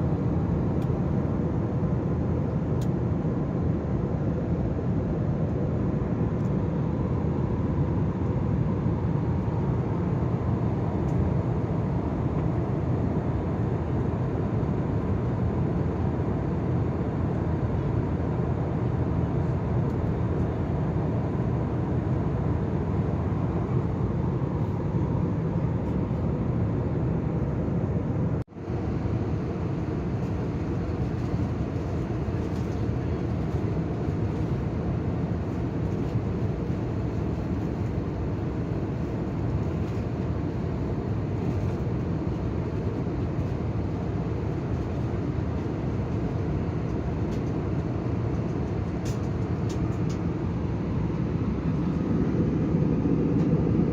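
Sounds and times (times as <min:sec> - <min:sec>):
aircraft cabin engine and airflow noise: 0:00.0 - 0:53.9.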